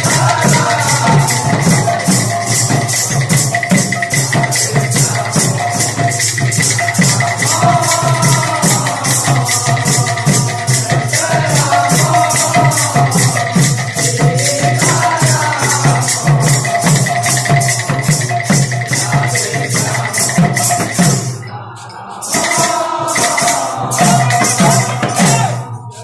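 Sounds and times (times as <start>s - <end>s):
barrel drum beat: 0.0s - 25.6s
group singing: 0.0s - 26.0s.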